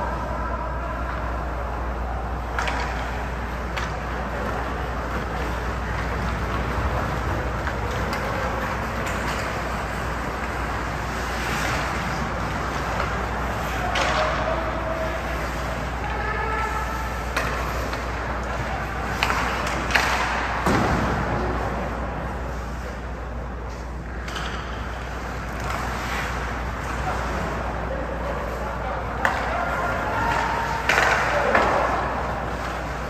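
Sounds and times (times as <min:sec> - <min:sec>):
ice rink ambience: 0:00.0 - 0:33.0
hockey sticks clacking on puck: 0:02.4 - 0:21.0, 0:23.7 - 0:33.0.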